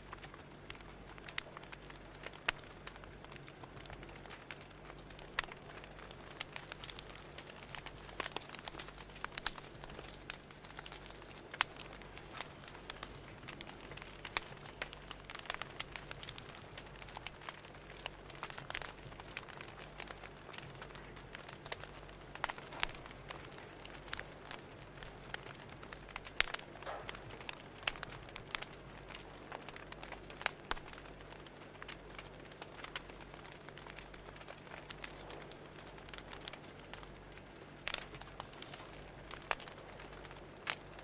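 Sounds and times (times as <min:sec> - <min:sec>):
fire crackling: 0:00.0 - 0:41.0.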